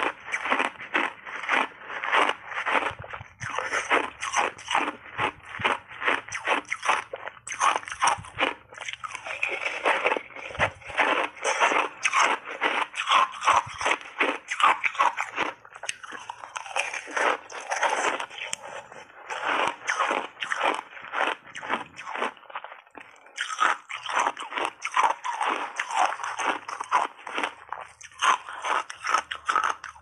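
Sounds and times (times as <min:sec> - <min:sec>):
ice crunching while chewing: 0:00.0 - 0:30.0.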